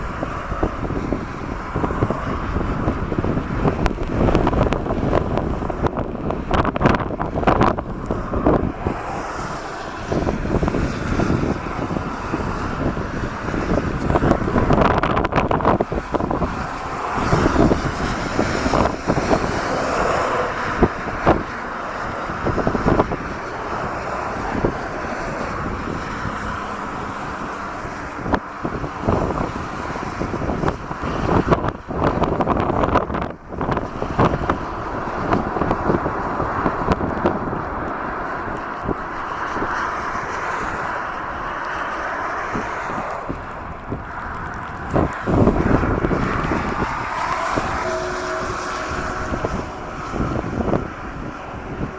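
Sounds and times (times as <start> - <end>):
jet airliner engines rumbling: 0.0 - 51.9
strong wind gusting over microphone: 0.0 - 51.9.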